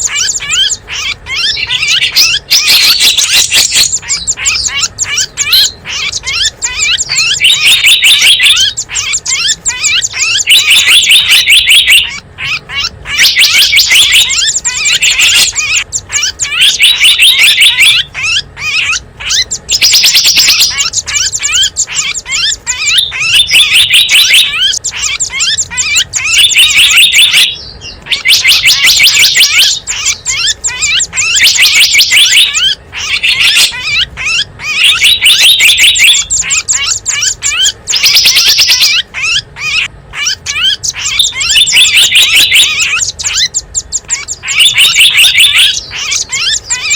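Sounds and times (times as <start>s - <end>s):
songbirds chirping and trilling: 0.0s - 46.9s.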